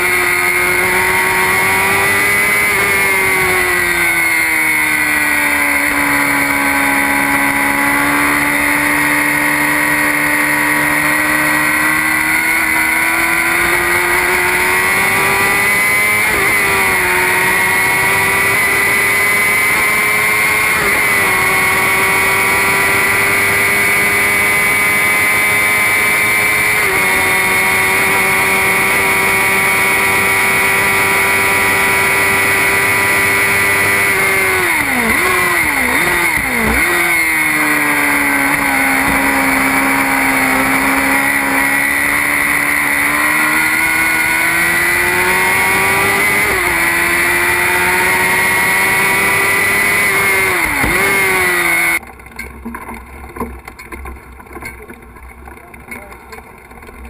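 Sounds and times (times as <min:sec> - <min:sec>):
race car engine high revs: 0:00.0 - 0:52.0.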